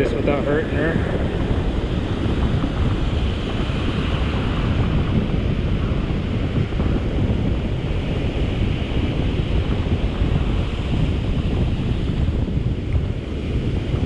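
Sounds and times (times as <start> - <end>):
surf breaking on sand: 0.0 - 14.0
wind buffeting microphone: 0.0 - 14.0.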